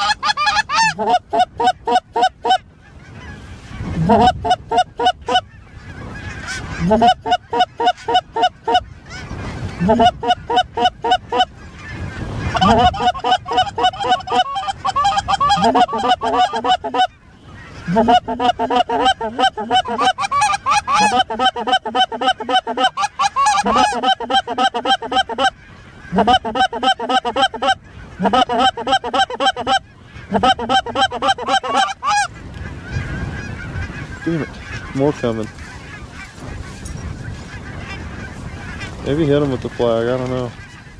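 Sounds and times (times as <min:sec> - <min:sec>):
goose honking: 0:00.0 - 0:40.9.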